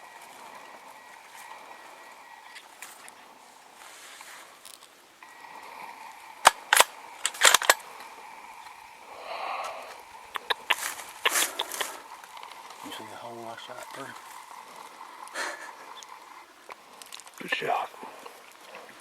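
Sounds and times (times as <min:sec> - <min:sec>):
faint outdoor background noise: 0:00.0 - 0:19.0.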